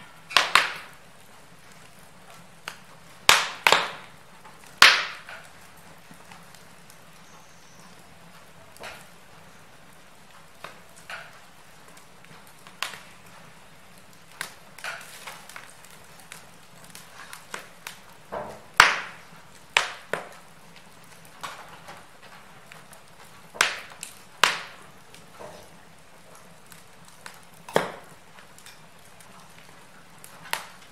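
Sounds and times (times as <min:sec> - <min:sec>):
faint steady hiss: 0:00.0 - 0:30.9
wood fire crackling and popping: 0:00.0 - 0:30.9.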